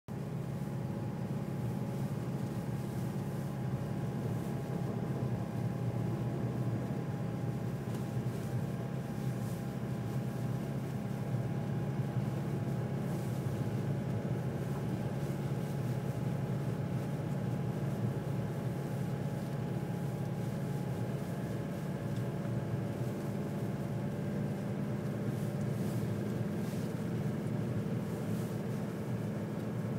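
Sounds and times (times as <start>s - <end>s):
car engine and tyre rumble: 0.1s - 29.9s
faint steady whine: 0.1s - 29.9s.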